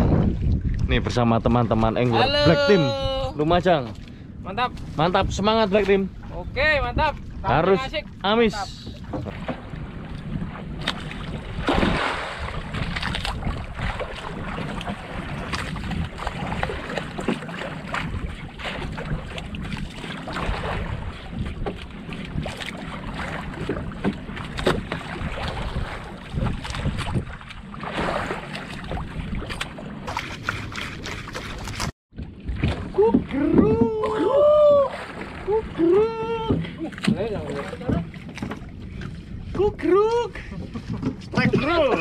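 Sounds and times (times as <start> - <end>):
water lapping against boat: 0.0 - 42.0
wind buffeting microphone: 0.0 - 42.0.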